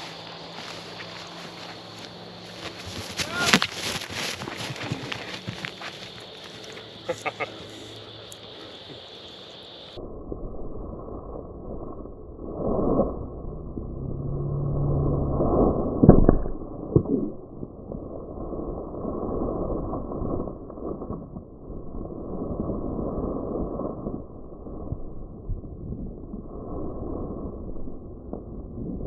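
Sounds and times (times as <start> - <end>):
muffled rushing noise: 0.0 - 29.0.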